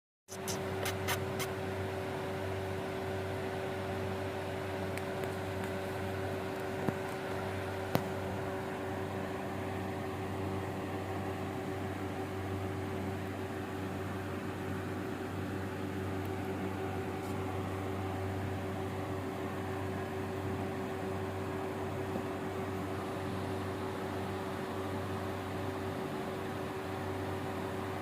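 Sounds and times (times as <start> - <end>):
machine hum: 0.3 - 28.0.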